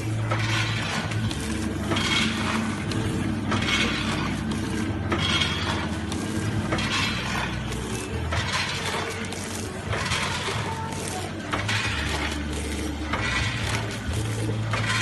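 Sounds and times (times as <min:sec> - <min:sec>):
machine motor hum: 0:00.0 - 0:15.0
packing machine mechanical clatter: 0:00.0 - 0:15.0.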